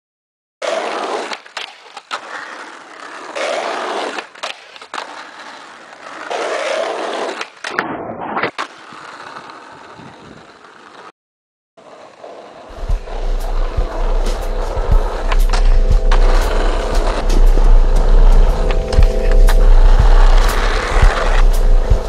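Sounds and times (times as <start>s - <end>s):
skateboard clacks: 0.6s - 11.1s, 11.8s - 21.5s
skateboard wheels rolling on asphalt: 0.6s - 11.1s, 11.8s - 22.0s.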